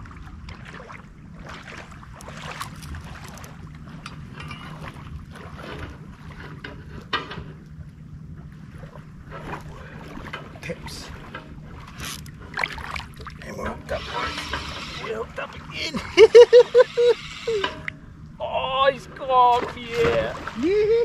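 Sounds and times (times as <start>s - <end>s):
low steady rumble: 0.0s - 21.0s
shallow water splashing: 0.0s - 21.0s.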